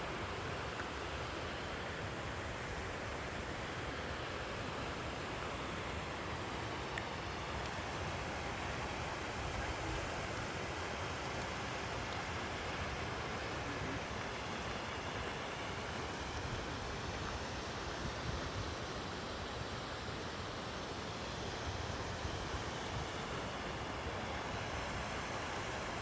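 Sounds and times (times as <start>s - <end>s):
stream rushing water: 0.0s - 26.0s.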